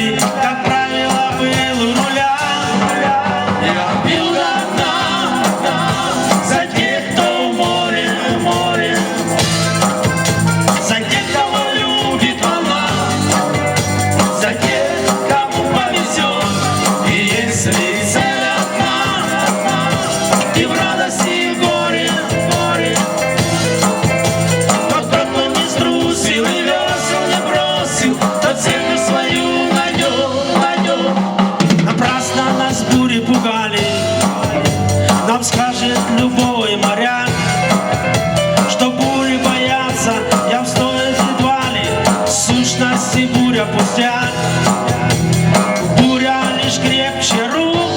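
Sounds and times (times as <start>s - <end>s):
band playing pop song: 0.0s - 47.9s
drum kit beat: 0.0s - 47.9s.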